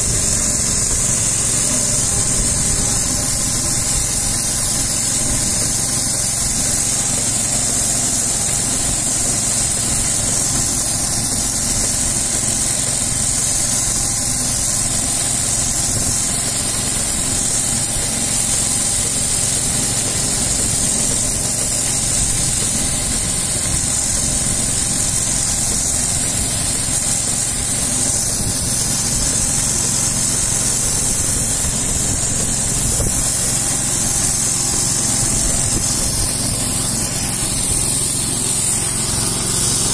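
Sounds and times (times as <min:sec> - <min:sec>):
small engine humming: 0:00.0 - 0:39.9
spray guns hissing: 0:00.0 - 0:39.9.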